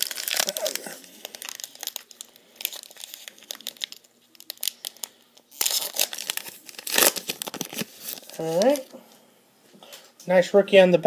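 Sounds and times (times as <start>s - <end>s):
plastic wrapper crinkling and tearing: 0.0s - 8.9s.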